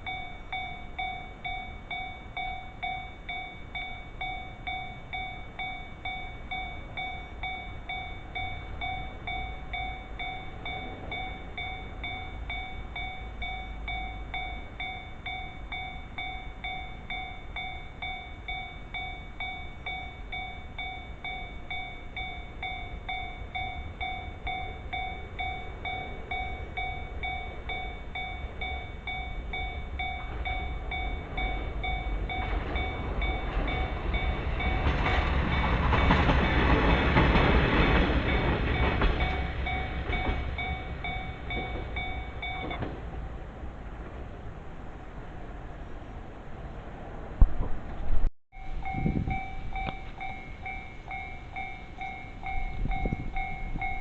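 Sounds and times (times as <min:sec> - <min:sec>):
railway crossing bell ringing: 0:00.0 - 0:43.5, 0:48.5 - 0:54.0
train rumble: 0:00.0 - 0:54.0.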